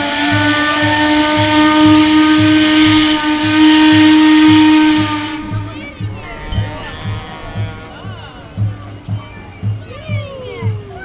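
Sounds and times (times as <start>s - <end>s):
boat horn blast: 0.0s - 9.8s
music with low beat: 0.2s - 11.0s.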